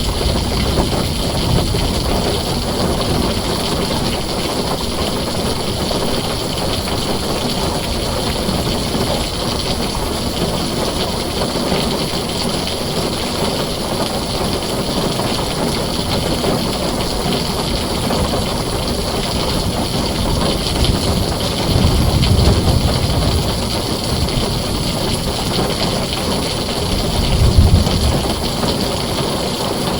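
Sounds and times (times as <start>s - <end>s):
heavy rain on a tin roof: 0.0s - 29.9s.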